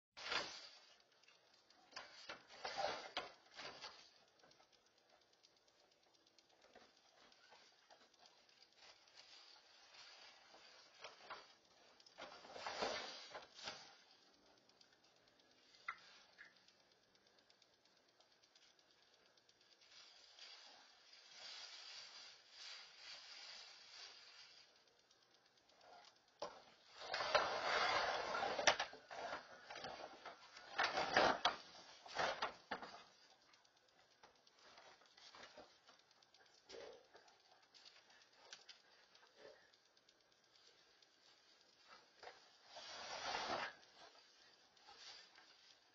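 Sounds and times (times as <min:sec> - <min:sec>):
light clicks: 0:00.2 - 0:27.5, 0:28.3 - 0:45.9.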